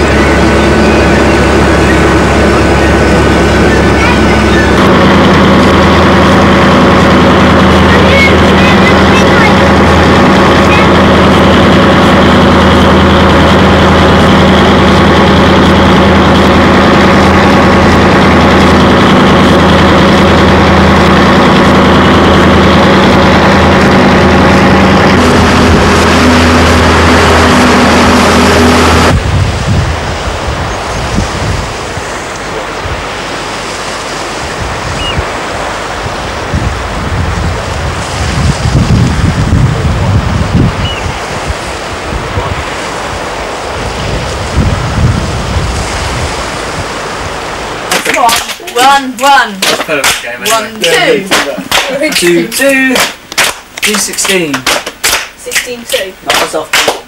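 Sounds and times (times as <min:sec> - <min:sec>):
wind buffeting microphone: 0:00.0 - 0:33.2, 0:34.4 - 0:47.4
boat engine running: 0:00.0 - 0:56.8
surf washing: 0:00.0 - 0:57.0.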